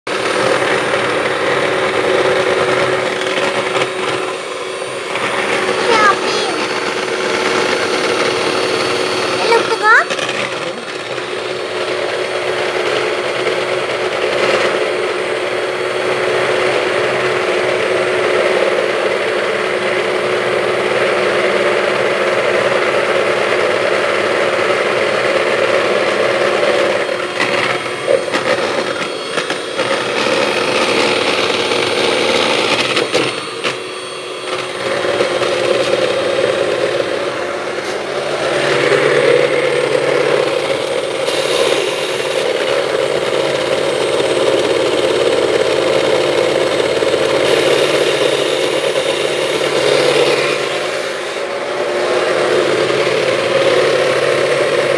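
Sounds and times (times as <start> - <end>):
electric hand mixer running: 0.0 - 54.9.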